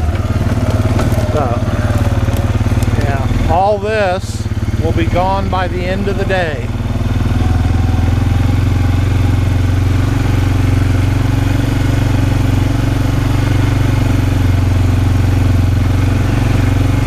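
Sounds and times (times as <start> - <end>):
atv engine running steadily: 0.0 - 17.0.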